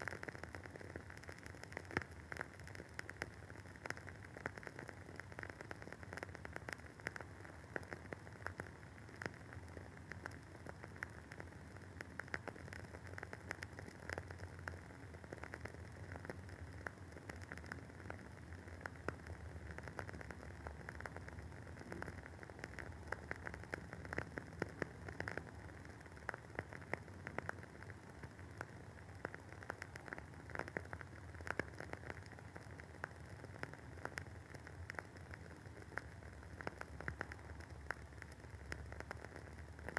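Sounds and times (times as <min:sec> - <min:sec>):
candle wick crackling: 0:00.0 - 0:39.9.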